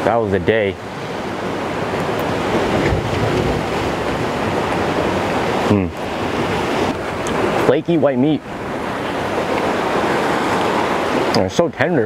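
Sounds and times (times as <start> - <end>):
surf on rocky shore: 0.0 - 12.0.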